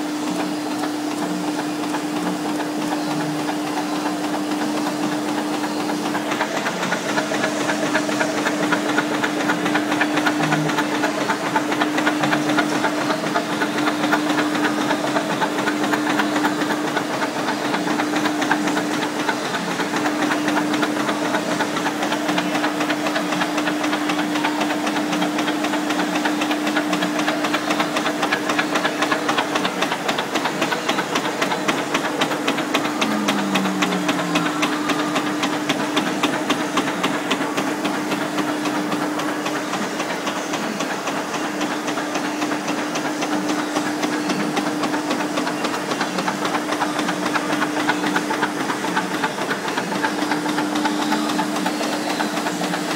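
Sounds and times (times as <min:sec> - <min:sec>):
printing press clattering: 0:00.0 - 0:52.9
printing press humming: 0:00.0 - 0:52.9.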